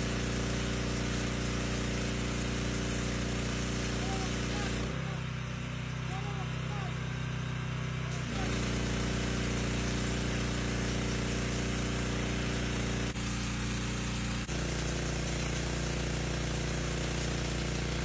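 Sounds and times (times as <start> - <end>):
high-pressure spray hissing: 0.0 - 5.2, 8.1 - 18.0
pressure washer engine drone: 0.0 - 18.0.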